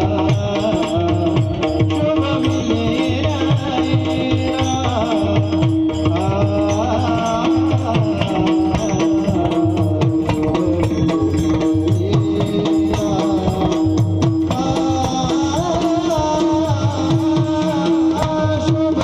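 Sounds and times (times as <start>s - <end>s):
drum strokes: 0.0s - 19.0s
men singing devotional songs: 0.0s - 19.0s.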